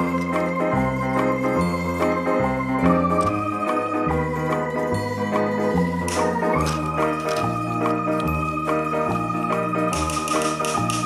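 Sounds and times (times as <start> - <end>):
organ-like keyboard chords: 0.0 - 11.0.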